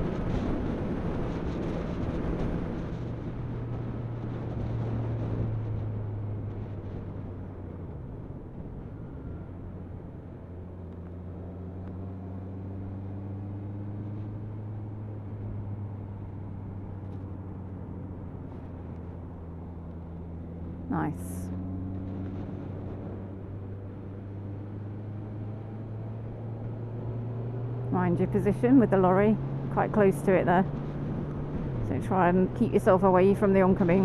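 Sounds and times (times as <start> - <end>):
wind and road rush: 0.0 - 34.0.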